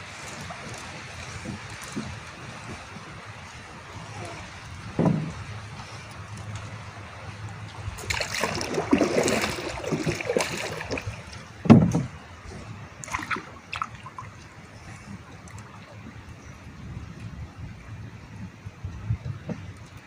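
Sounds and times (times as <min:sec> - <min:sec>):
water splashing beside a boat: 0:00.0 - 0:20.0.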